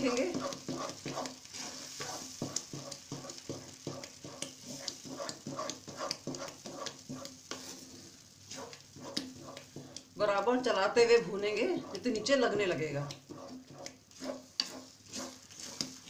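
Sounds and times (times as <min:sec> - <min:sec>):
spoon scraping metal pan: 0:00.0 - 0:10.1, 0:11.0 - 0:16.0
paste frying hiss: 0:00.0 - 0:16.0.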